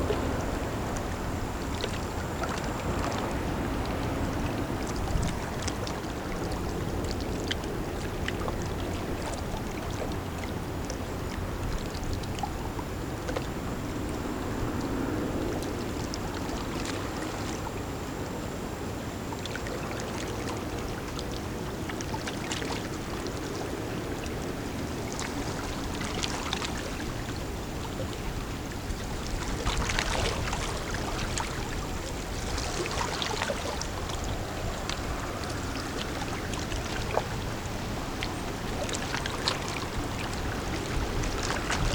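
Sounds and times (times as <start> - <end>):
water splashing and trickling: 0.0 - 17.8, 19.3 - 41.9
low rumble of passing ship: 0.0 - 41.9.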